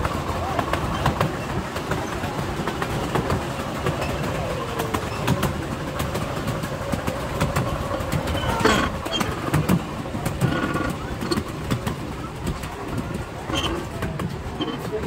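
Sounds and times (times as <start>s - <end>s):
rail clicks: 0.0s - 15.0s
train wheels rumbling on track: 0.0s - 15.0s.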